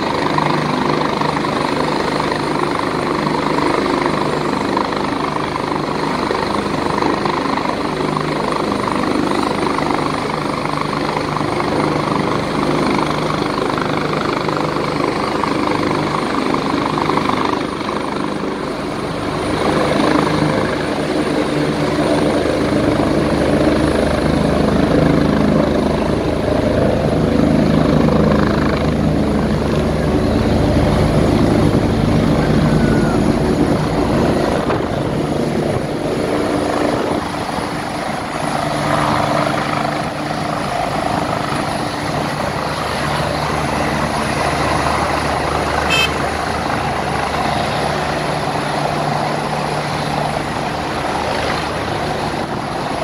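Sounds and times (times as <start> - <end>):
helicopter rotor: 0.0 - 53.0
high turbine whine: 0.0 - 53.0.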